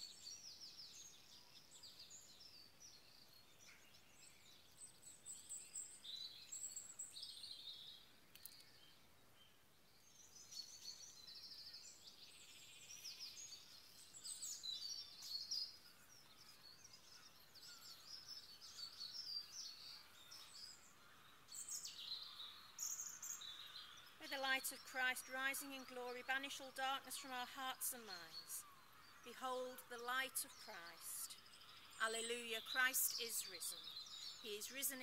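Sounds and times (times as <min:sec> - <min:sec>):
songbirds singing and chirping: 0:00.0 - 0:35.0.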